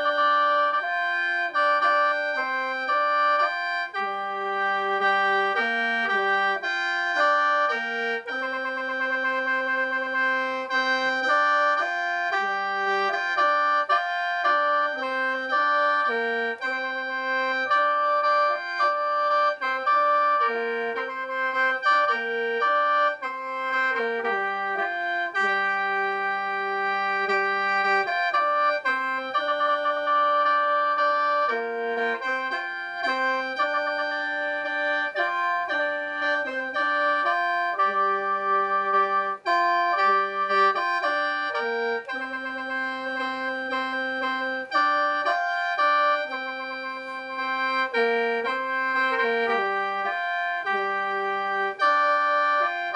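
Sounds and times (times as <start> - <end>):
bamboo mouth organ melody: 0.0 - 52.9.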